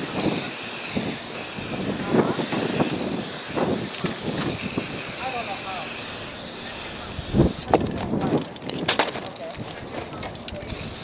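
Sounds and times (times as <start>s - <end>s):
spray paint cans hissing: 0.0s - 11.0s.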